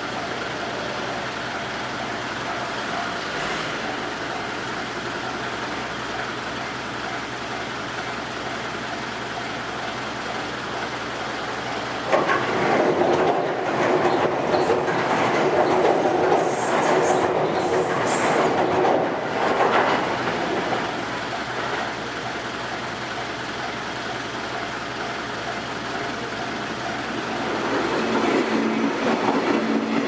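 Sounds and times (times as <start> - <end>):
electric train running past: 0.0 - 8.1, 8.9 - 30.0.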